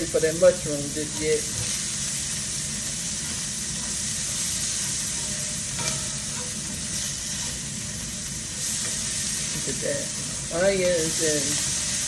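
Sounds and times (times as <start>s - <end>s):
onions sizzling in oil: 0.0s - 12.0s
spatula stirring in pan: 0.0s - 12.0s.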